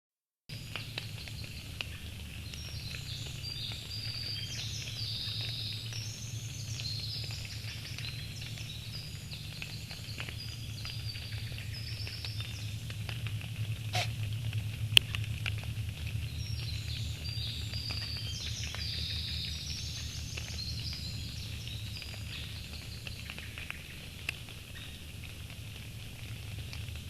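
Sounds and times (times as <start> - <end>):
small birds chirping: 0.5 - 14.2, 15.0 - 26.9
steady low hum: 0.5 - 24.3.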